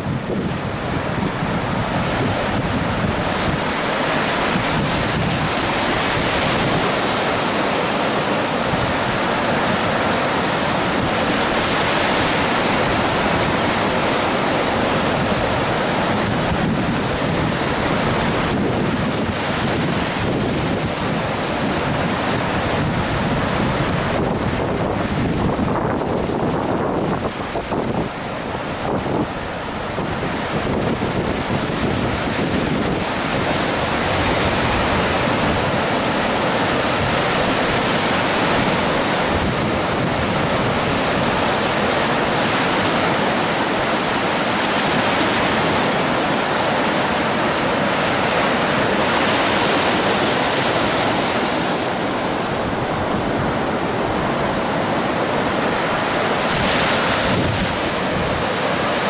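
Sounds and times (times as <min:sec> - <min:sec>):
waves breaking on beach: 0:00.0 - 0:59.0
wind buffeting microphone: 0:00.0 - 0:59.0.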